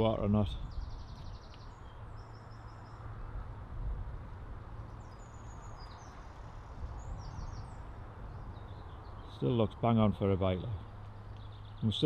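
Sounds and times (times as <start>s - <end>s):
small birds chirping: 0.0s - 12.0s
wind rumbling on microphone: 0.0s - 12.0s.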